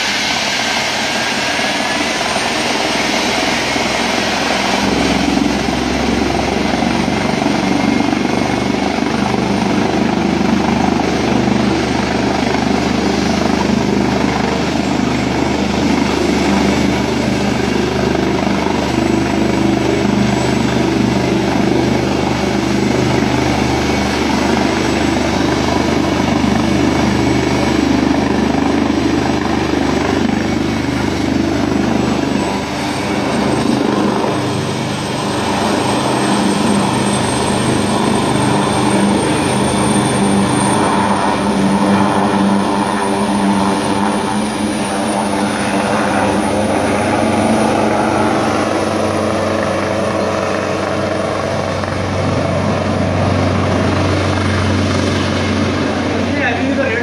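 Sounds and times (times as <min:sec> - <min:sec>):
helicopter rotor and turbine whine: 0:00.0 - 0:57.0.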